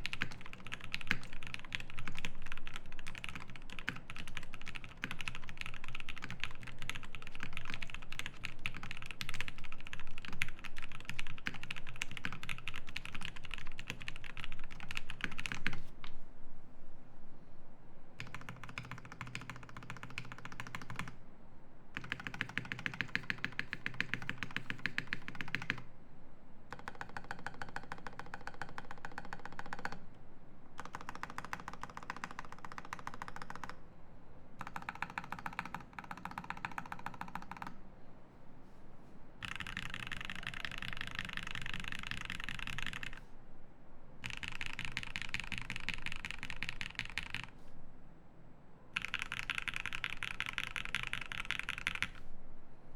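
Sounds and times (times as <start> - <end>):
mechanical keyboard typing: 0.0 - 15.9, 18.2 - 21.2, 22.0 - 25.9, 26.7 - 30.0, 30.8 - 33.8, 34.6 - 37.8, 39.4 - 43.2, 44.2 - 47.6, 49.0 - 52.2.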